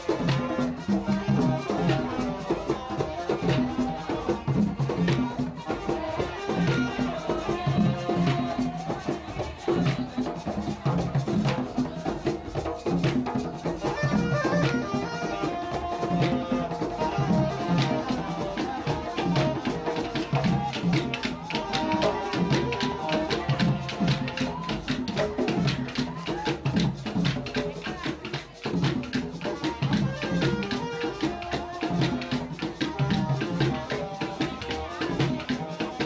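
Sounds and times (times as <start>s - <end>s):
hand drums playing: 0.0s - 36.0s
shaker rattling: 0.0s - 36.0s.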